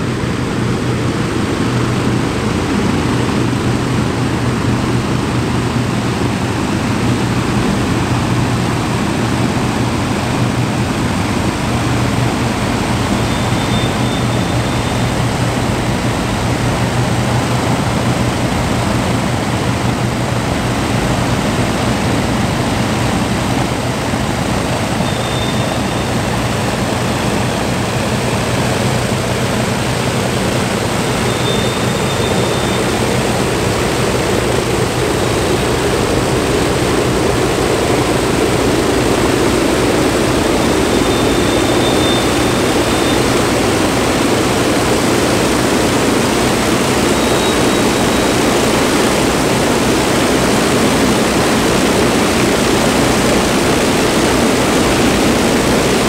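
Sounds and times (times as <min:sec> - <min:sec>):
propeller aircraft engines droning: 0:00.0 - 0:56.0.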